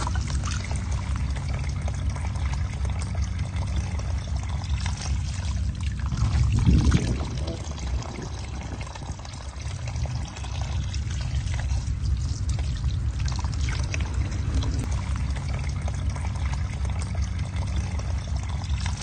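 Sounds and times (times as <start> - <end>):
low rumble: 0.0 - 19.0
water pouring and splashing: 0.0 - 19.0.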